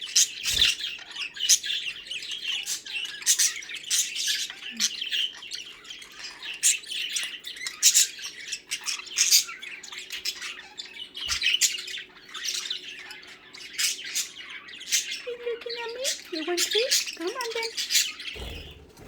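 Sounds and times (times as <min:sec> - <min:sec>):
budgerigars chirping and squawking: 0:00.0 - 0:19.0.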